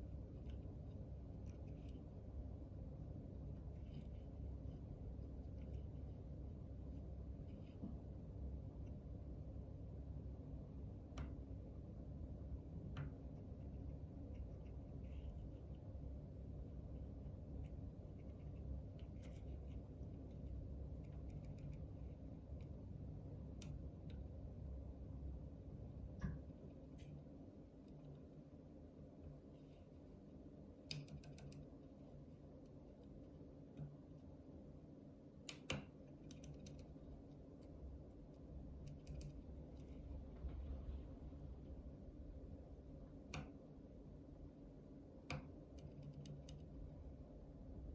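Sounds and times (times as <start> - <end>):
low steady rumble: 0.0 - 47.9.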